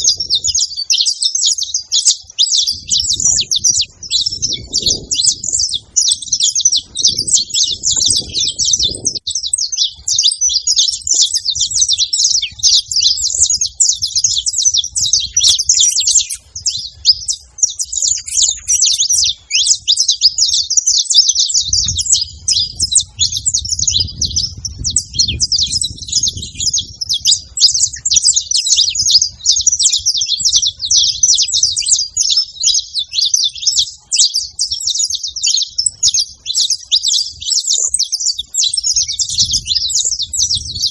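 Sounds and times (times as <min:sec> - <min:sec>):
finches chirping and singing: 0:00.0 - 0:40.9.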